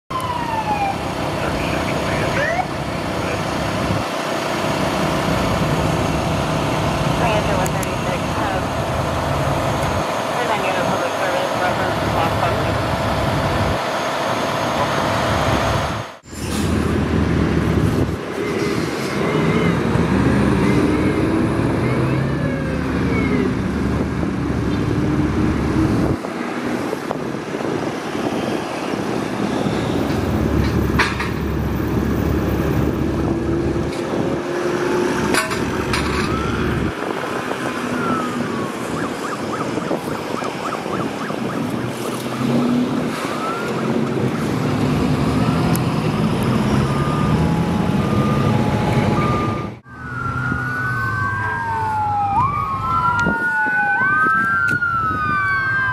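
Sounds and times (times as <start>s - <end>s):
emergency siren wailing: 0.1s - 4.2s, 4.9s - 16.1s, 19.4s - 55.9s
vehicles passing: 0.1s - 55.9s.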